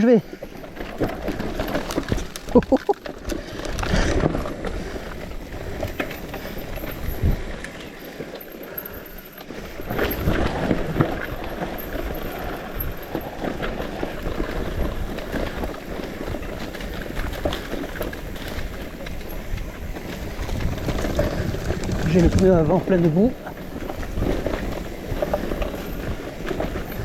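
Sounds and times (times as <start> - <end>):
bicycle rattling over bumps: 0.0 - 27.0
bicycle tyres rolling on dirt: 0.0 - 27.0.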